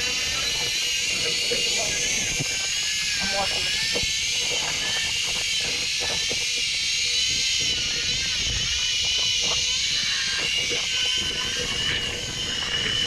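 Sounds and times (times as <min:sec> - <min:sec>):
drone propellers whining: 0:00.0 - 0:13.0
wind on microphone: 0:00.0 - 0:13.0.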